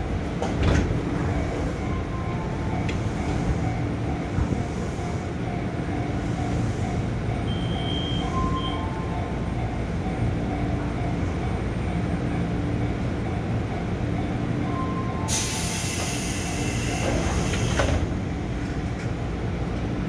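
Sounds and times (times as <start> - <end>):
electric train hum and rumble: 0.0 - 20.0.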